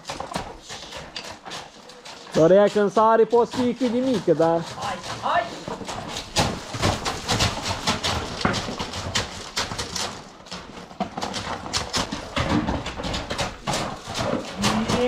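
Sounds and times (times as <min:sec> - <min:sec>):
horse hooves galloping: 0:00.0 - 0:15.0.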